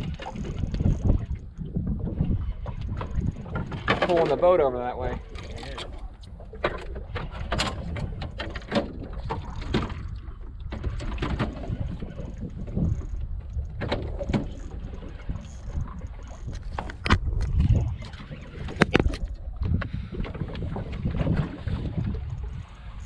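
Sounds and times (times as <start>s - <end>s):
low wind rumble: 0.0s - 23.0s
water lapping against hull: 0.0s - 23.0s.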